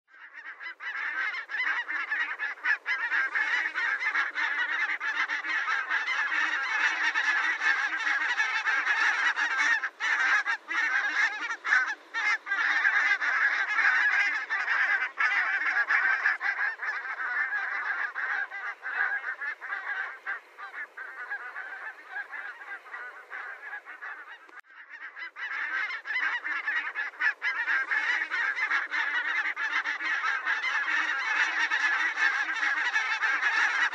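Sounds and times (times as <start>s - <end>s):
geese honking and cackling: 0.1s - 33.9s.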